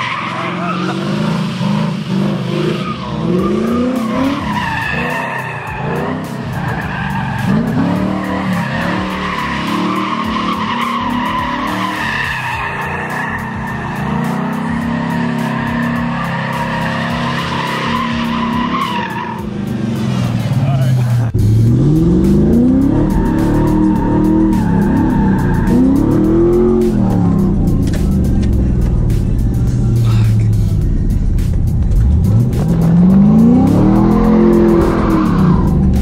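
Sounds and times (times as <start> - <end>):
tyres squealing and skidding: 0.0 - 30.4, 32.6 - 36.0
car engine revving: 0.0 - 36.0.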